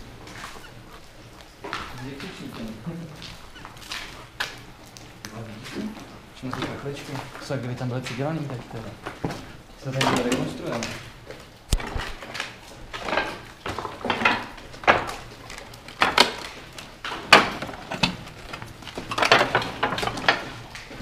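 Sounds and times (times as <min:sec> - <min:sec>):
footsteps crunching over rubble: 0:00.0 - 0:21.0.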